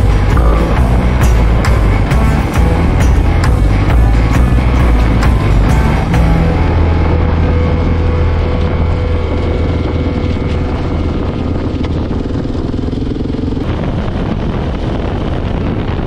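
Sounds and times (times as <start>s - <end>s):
motorcycle engine running: 0.0s - 16.0s
noisy rush: 0.0s - 16.0s.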